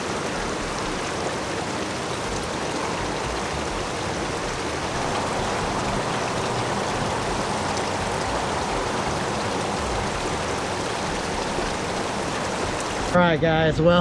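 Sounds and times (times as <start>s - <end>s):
river water rushing: 0.0s - 13.3s.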